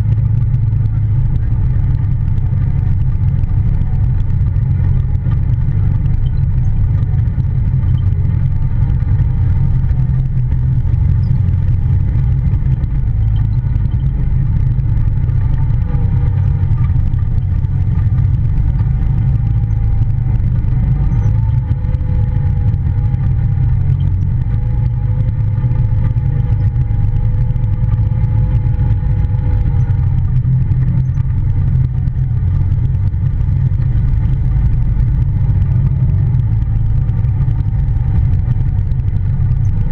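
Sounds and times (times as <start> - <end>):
off-road vehicle engine rumble: 0.0 - 39.9.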